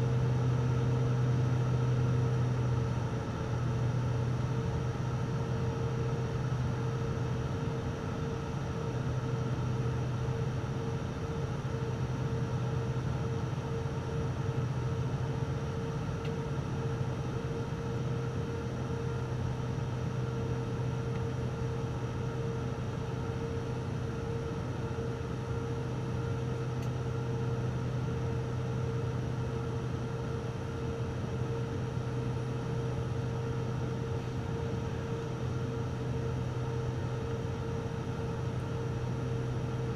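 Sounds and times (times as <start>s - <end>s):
airplane engine drone in cabin: 0.0s - 39.9s.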